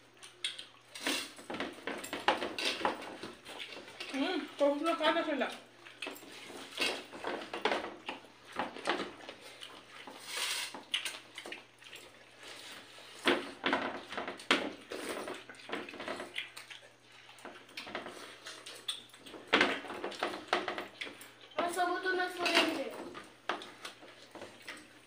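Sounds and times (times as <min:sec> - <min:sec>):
chewing: 0:00.0 - 0:04.6, 0:05.6 - 0:13.2, 0:14.7 - 0:21.6, 0:23.2 - 0:25.0.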